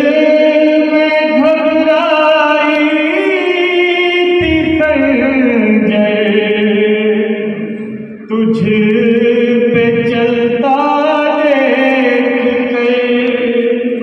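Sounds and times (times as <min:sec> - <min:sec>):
man chanting through a microphone: 0:00.0 - 0:14.0.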